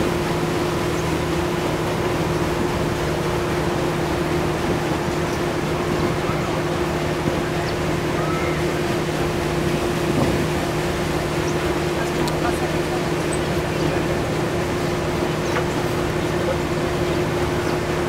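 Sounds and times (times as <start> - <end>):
boat engine humming: 0.0 - 18.0
rushing water wash: 0.0 - 18.0.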